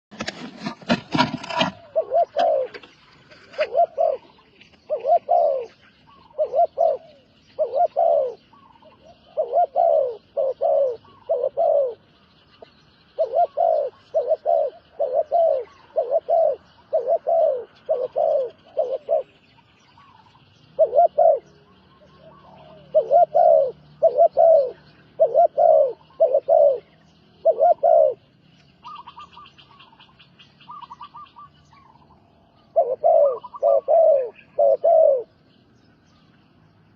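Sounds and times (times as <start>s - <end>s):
bird cooing hoots: 1.6s - 35.5s.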